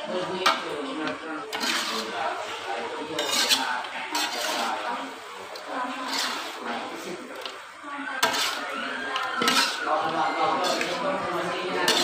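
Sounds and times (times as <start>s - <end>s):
metal spatula scraping a wok: 0.1s - 12.0s.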